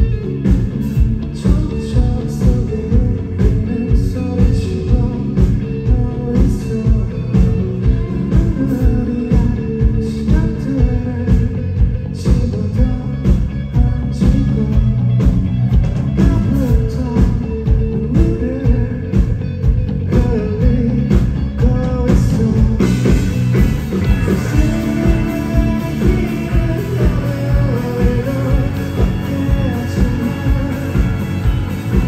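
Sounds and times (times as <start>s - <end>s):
drums: 0.0s - 32.0s
electric bass: 0.0s - 32.0s
electric guitar: 0.0s - 32.0s
person singing: 1.3s - 19.4s, 23.9s - 32.0s.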